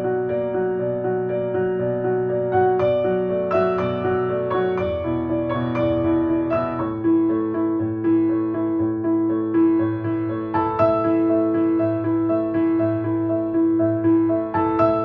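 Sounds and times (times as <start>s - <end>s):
slow relaxing piano music: 0.0s - 15.0s.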